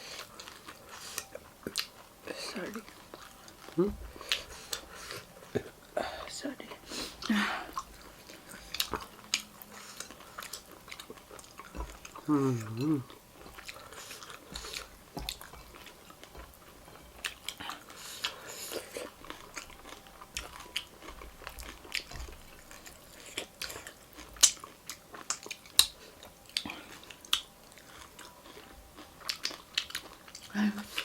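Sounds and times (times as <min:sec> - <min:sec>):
chewing crunchy food: 0:00.0 - 0:31.0.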